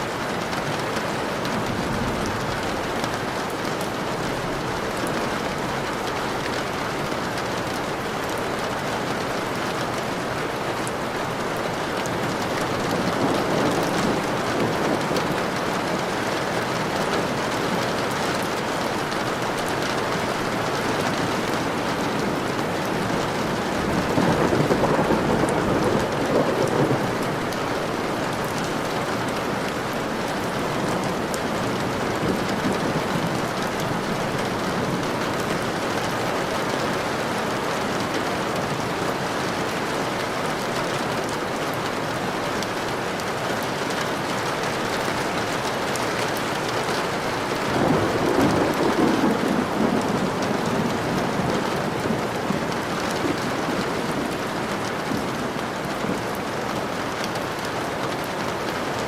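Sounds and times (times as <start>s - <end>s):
heavy rain falling: 0.0s - 59.0s
thunder rumbling: 0.9s - 41.2s, 44.8s - 56.3s.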